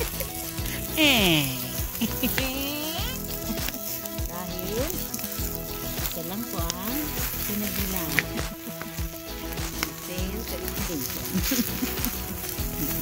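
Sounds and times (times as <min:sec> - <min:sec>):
music with sliding pitches: 0:00.0 - 0:13.0
steak sizzling on grill: 0:00.0 - 0:13.0.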